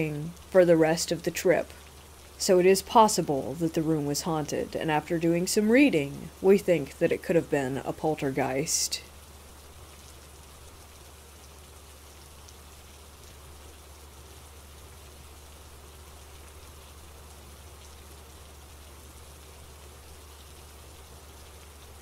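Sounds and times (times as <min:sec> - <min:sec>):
steady rain patter: 0:00.0 - 0:22.0.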